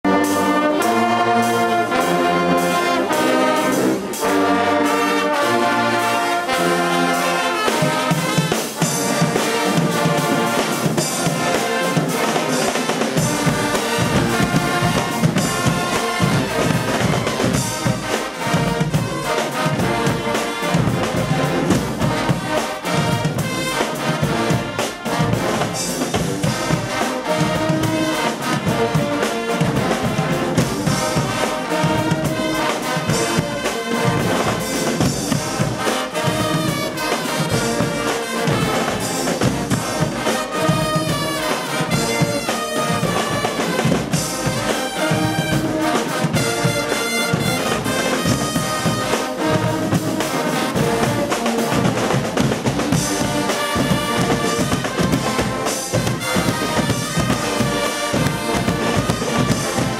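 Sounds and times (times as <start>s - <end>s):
carnival brass band playing: 0.0s - 59.9s
heavy pulsing drum beat: 5.6s - 59.9s.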